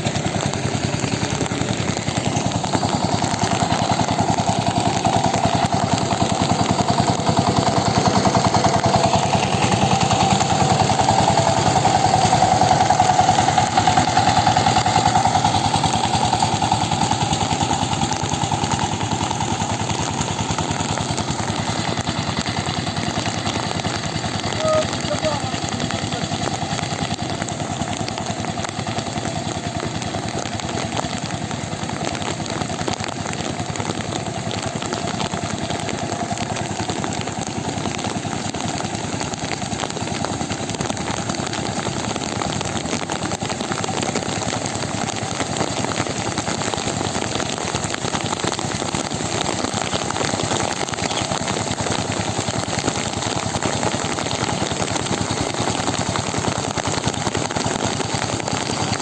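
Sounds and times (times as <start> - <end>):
engine running fast: 0.0 - 59.0.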